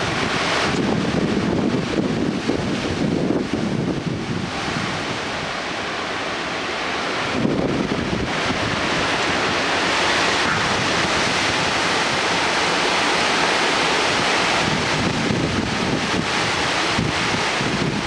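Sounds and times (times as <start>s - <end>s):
strong wind gusting through trees: 0.0s - 18.0s
wind buffeting microphone: 0.0s - 18.0s.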